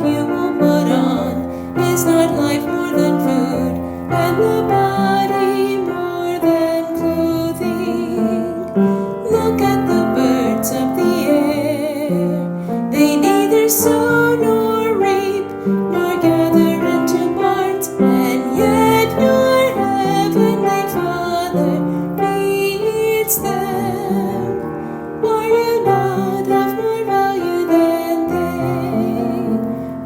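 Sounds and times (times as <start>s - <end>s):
piano accompaniment: 0.0s - 30.0s
woman singing: 0.0s - 30.0s.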